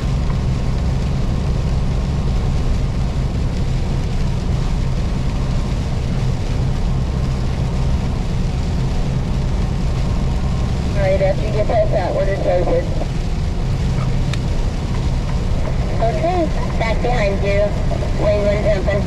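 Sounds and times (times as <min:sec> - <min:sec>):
truck diesel engine droning: 0:00.0 - 0:19.0.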